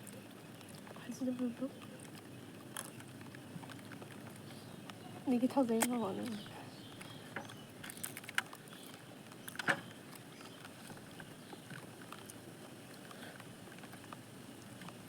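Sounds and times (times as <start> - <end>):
crisp eating crunches: 0.0 - 15.0.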